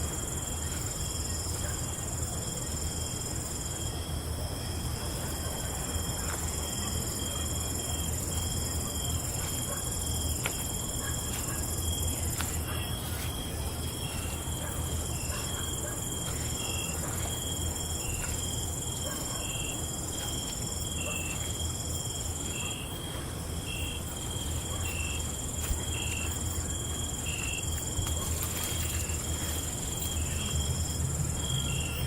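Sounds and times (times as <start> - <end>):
night insects chirring: 0.0 - 32.0.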